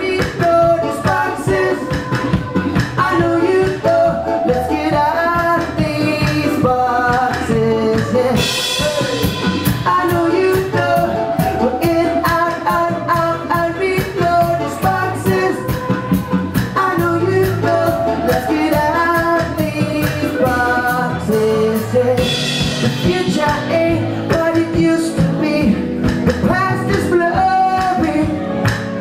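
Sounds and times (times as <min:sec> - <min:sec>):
man singing into a microphone: 0:00.0 - 0:02.4, 0:03.0 - 0:28.6
electric bass: 0:00.0 - 0:29.0
drum kit hits: 0:00.1 - 0:24.5.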